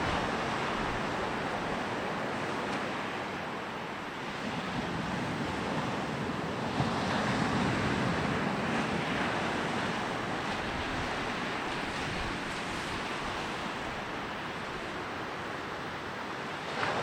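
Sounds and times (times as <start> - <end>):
sea waves breaking on beach: 0.0 - 17.0.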